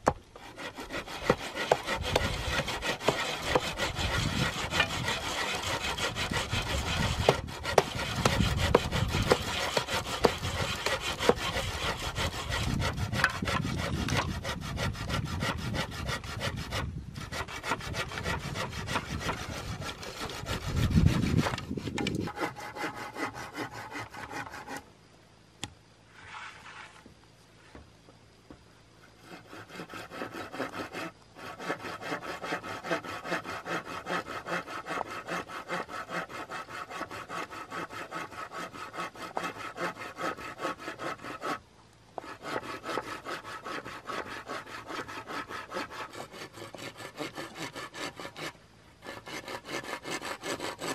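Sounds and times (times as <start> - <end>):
hand saw cutting bamboo: 0.0 - 24.9, 29.2 - 41.6, 42.2 - 50.9.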